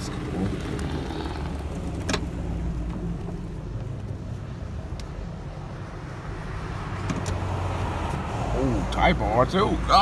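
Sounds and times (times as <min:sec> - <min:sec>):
car engine passing and pulling away: 0:00.0 - 0:10.0.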